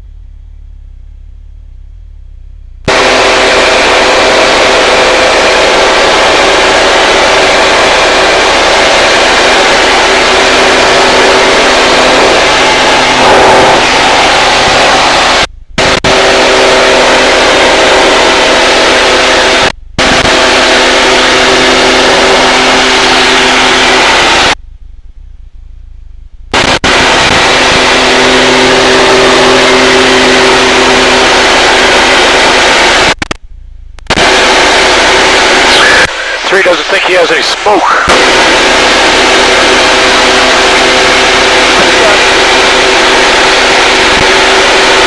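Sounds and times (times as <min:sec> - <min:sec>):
aircraft cockpit engine hum: 0:00.0 - 0:45.0.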